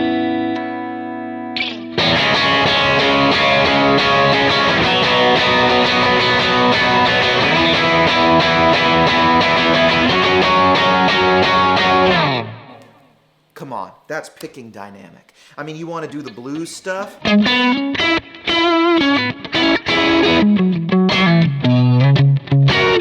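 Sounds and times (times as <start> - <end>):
overdriven electric guitar: 0.0 - 13.2, 17.2 - 23.0.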